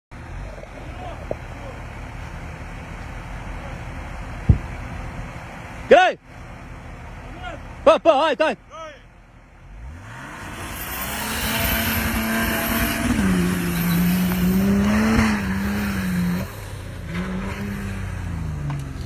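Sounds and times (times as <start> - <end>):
off-road vehicle engine revving: 0.1 - 19.0
tyre and dirt noise: 0.1 - 19.0.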